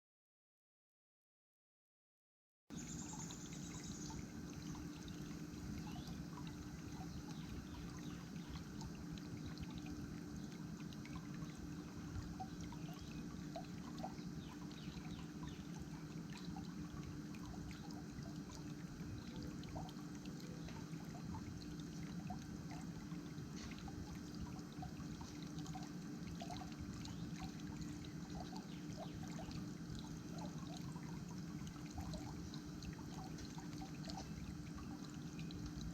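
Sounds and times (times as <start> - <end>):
faint low hum: 2.7 - 35.9
water trickling and splashing: 2.7 - 35.9.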